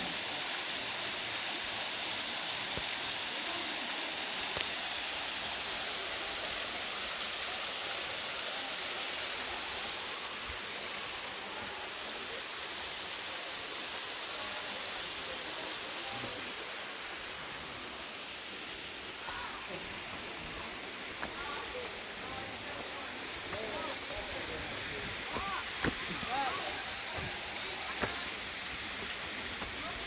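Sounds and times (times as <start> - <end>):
small waterfall splashing: 0.0 - 30.0.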